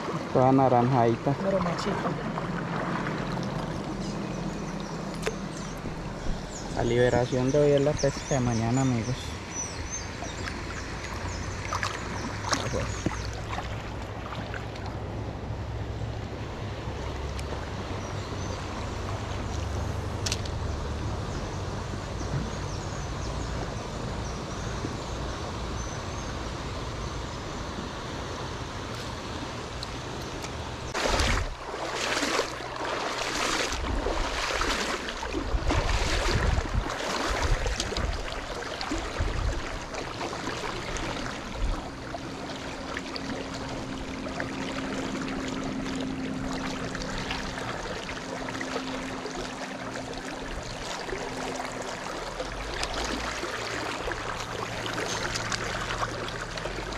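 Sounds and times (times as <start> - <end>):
river water rushing: 0.0 - 56.9.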